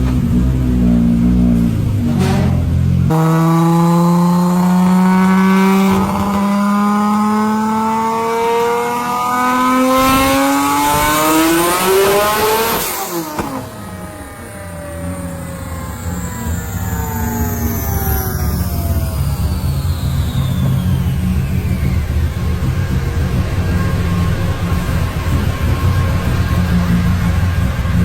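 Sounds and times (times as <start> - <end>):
car engine accelerating: 0.0 - 28.0
lower engine sound: 0.0 - 28.0.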